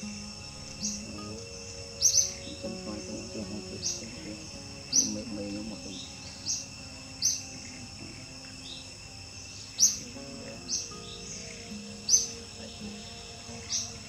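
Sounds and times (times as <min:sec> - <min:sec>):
bird high call: 0:00.0 - 0:14.0
high-pitched insect drone: 0:00.0 - 0:14.0.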